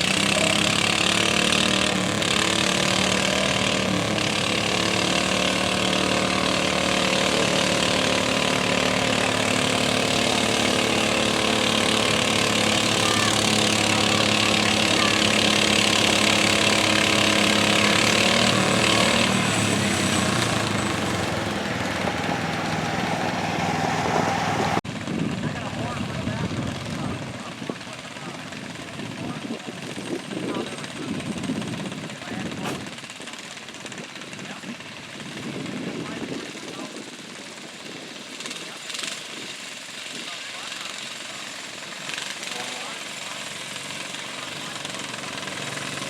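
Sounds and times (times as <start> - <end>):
garden tractor engine running hard: 0.0 - 46.0.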